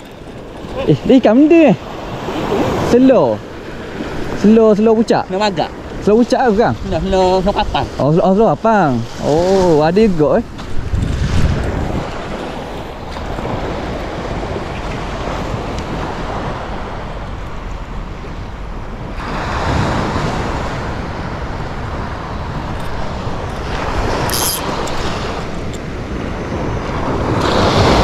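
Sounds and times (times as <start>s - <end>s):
sea waves washing onto shore: 0.0s - 28.0s
wind buffeting microphone: 0.0s - 28.0s.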